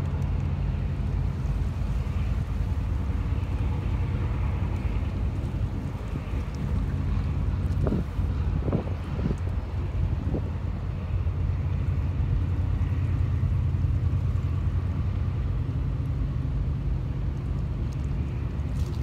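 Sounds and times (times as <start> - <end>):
low steady harbour rumble: 0.0 - 19.0.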